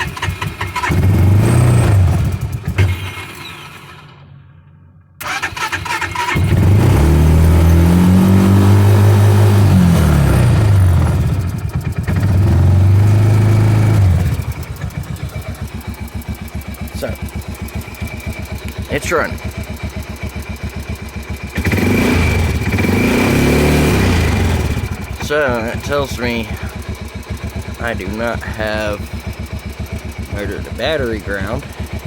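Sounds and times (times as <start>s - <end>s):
engine idling: 0.0s - 32.0s
engine starting and revving: 0.0s - 32.0s.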